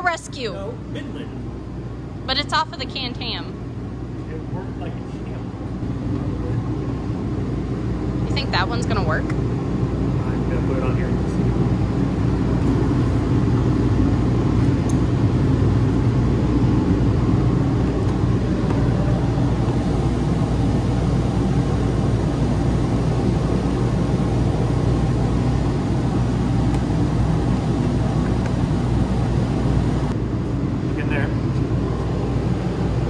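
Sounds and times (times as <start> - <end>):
low machine running noise: 0.0 - 33.0.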